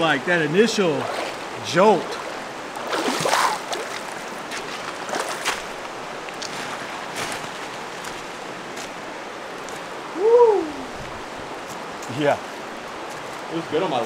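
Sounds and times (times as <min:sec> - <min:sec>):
stream water rushing: 0:00.0 - 0:14.0
water splashing: 0:00.0 - 0:14.0.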